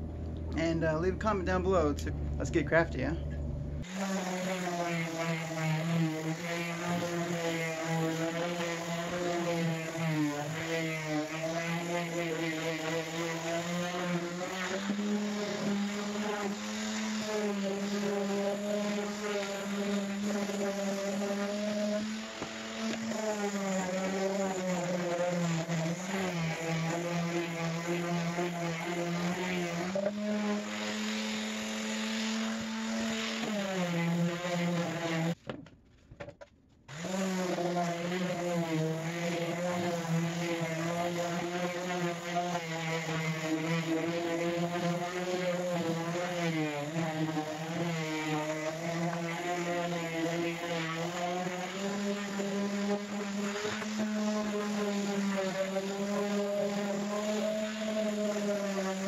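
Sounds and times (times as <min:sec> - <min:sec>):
orbital sander motor hum: 0:03.8 - 0:35.4, 0:36.9 - 0:59.0.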